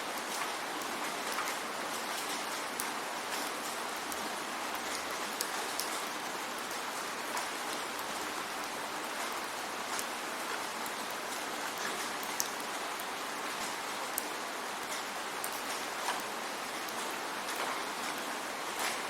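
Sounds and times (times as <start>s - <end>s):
raindrops ticking on surface: 0.1s - 19.0s.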